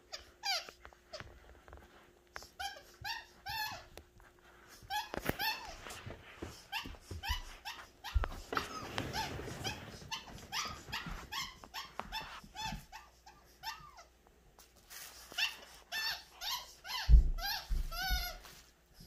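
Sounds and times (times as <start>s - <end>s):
puppy yipping: 0.1s - 1.3s, 2.4s - 4.0s, 4.7s - 14.1s, 15.0s - 19.0s.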